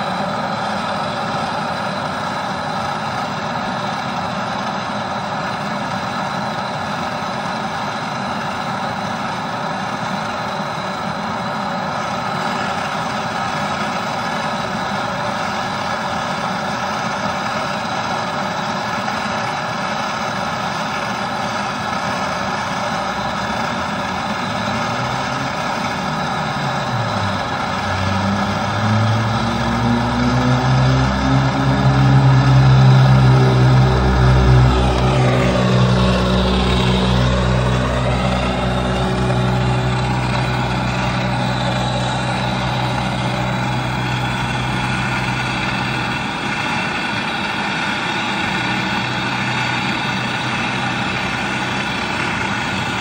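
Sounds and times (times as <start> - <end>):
low drone shifting in pitch: 0.0 - 53.0
steady mechanical running noise: 0.0 - 53.0.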